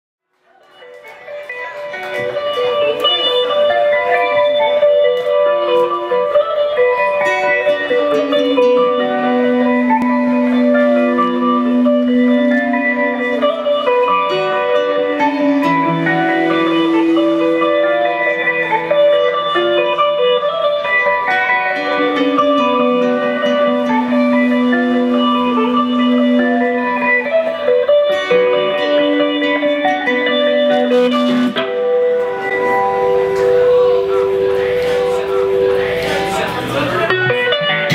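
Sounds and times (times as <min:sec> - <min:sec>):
electric guitar melodic line: 0:00.7 - 0:37.9
live band playing: 0:00.8 - 0:37.9.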